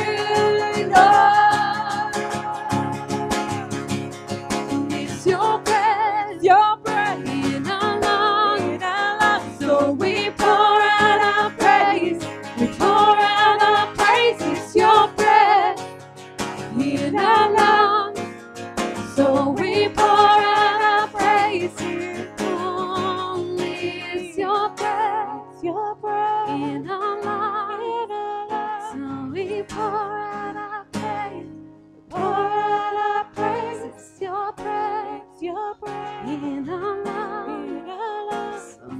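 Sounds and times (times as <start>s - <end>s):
women singing worship song: 0.0s - 3.7s, 4.7s - 15.9s, 16.7s - 18.2s, 19.1s - 25.8s, 26.4s - 31.4s, 32.1s - 38.9s
strummed acoustic guitar: 0.0s - 38.9s.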